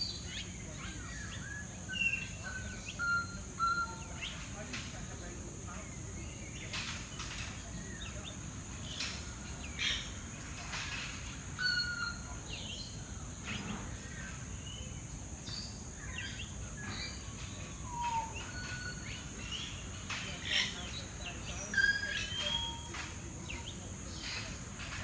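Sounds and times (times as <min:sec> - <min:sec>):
many birds calling: 0:00.0 - 0:25.0.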